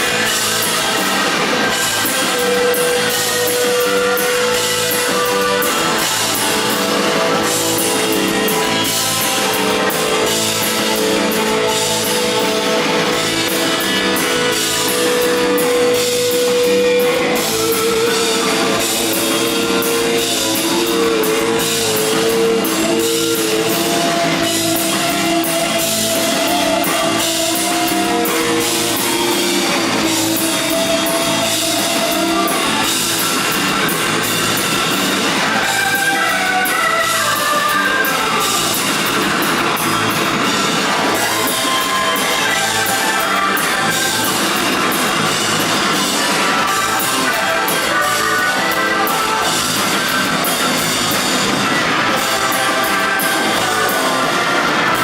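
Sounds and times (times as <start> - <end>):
drum kit beat: 0.0 - 55.0
electric guitar: 0.0 - 55.0
live rock band playing: 0.0 - 55.0.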